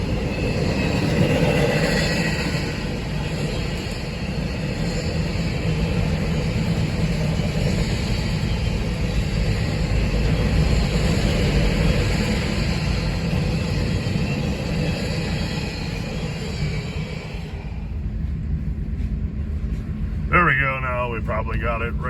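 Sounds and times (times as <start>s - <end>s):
freight train rumbling past: 0.0s - 22.0s
rail noise: 0.0s - 22.0s.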